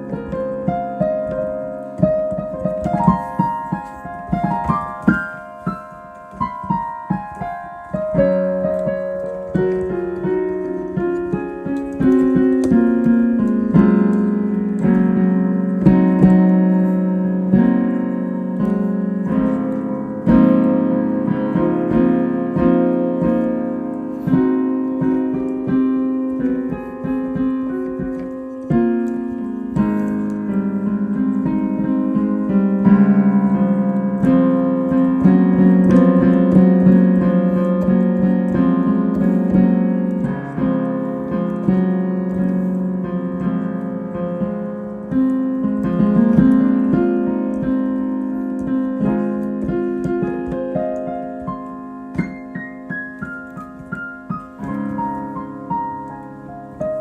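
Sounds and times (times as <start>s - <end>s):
solo piano playing: 0.0s - 57.0s.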